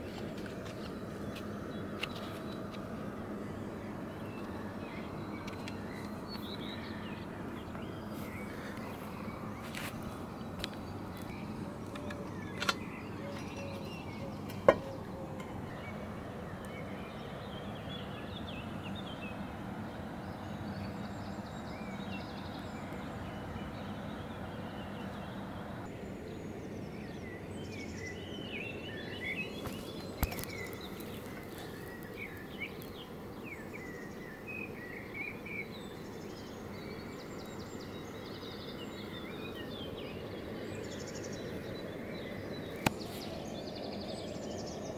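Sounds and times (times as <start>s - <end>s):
small birds chirping: 0.0s - 44.9s
steady background hiss: 0.0s - 44.9s.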